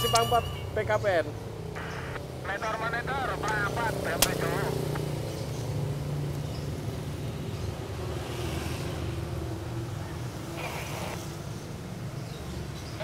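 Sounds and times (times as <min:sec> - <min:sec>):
cars passing: 0:00.0 - 0:13.0
motorcycles passing: 0:00.0 - 0:13.0.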